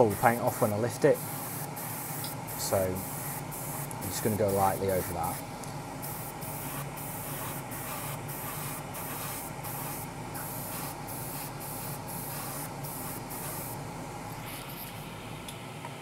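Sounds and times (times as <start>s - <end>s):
airbrush hissing: 0.0s - 15.0s
extractor fan humming: 0.0s - 16.0s.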